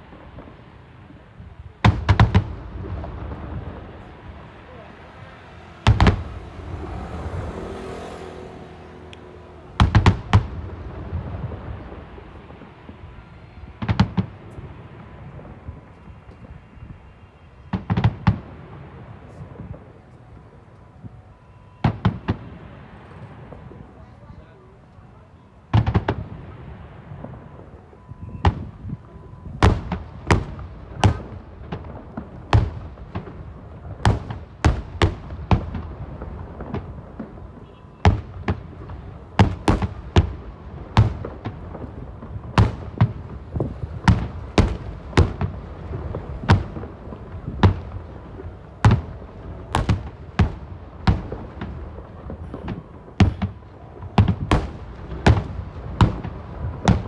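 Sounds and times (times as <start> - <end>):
low rumble of fireworks barrage: 0.0 - 57.0.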